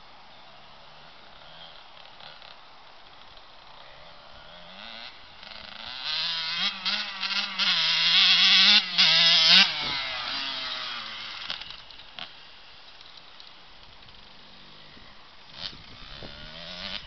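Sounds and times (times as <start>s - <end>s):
dirt bike engine revving: 0.8s - 12.6s, 14.0s - 17.0s.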